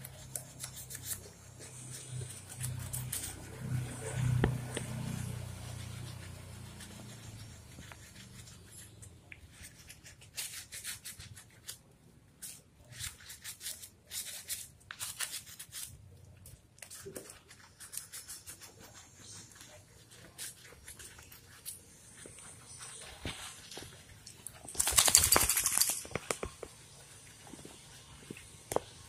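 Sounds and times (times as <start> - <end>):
sponge scrubbing wet fur: 0.0 - 16.2, 16.8 - 24.3.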